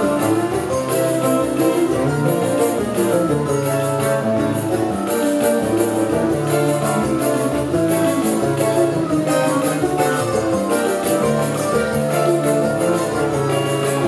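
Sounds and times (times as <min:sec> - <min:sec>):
high percussion ticks: 0:00.0 - 0:14.0
plucked strings: 0:00.0 - 0:14.0.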